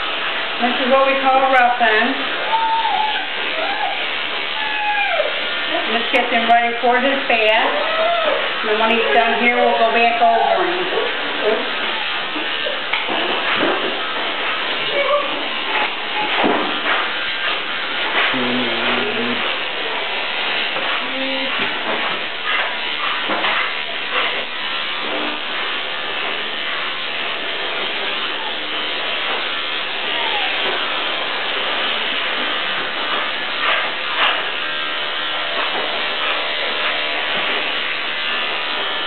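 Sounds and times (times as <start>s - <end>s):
electric clippers running: 0.0s - 39.0s.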